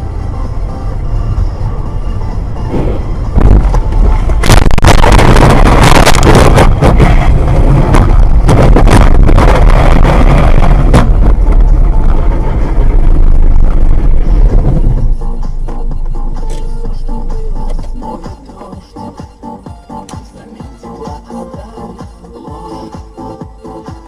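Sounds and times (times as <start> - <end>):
rushing noise: 0.0 - 19.6
vehicle rumble: 0.0 - 24.0.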